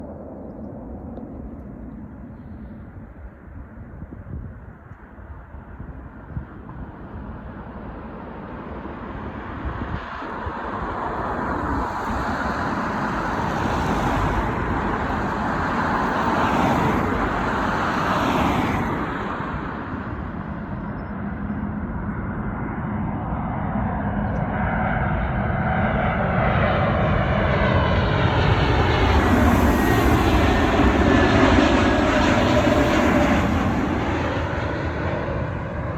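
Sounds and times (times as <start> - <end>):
airliner jet engines passing: 0.0 - 35.9.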